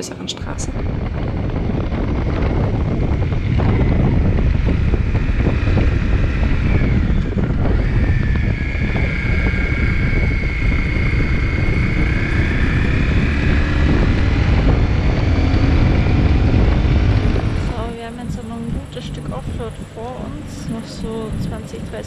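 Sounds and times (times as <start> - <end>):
motorcycle engine whine: 0.0 - 22.0
wind buffeting microphone: 0.0 - 22.0.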